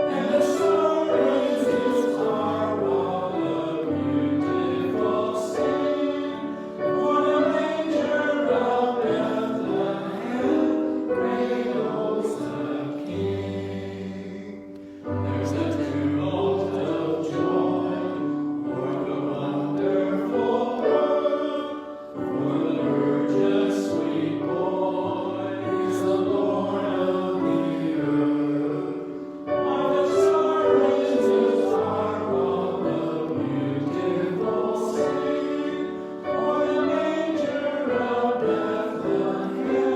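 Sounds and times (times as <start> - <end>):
choir singing with music: 0.0 - 39.9.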